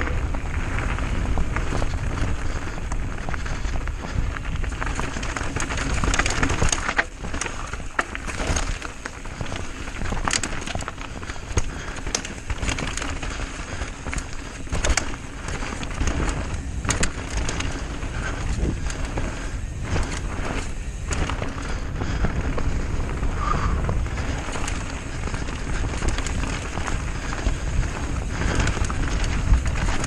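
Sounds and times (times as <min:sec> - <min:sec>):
bike rattling and knocking: 0:00.0 - 0:30.0
bike tyres rolling over dirt: 0:00.0 - 0:30.0
steady low rumble: 0:00.0 - 0:30.0.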